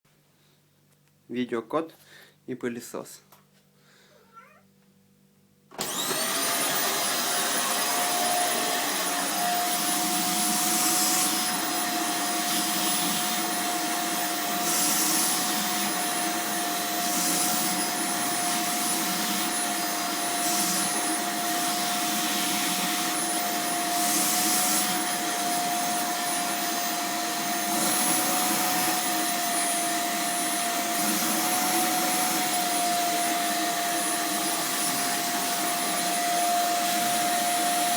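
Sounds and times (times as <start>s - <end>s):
vacuum cleaner running: 5.7s - 37.9s.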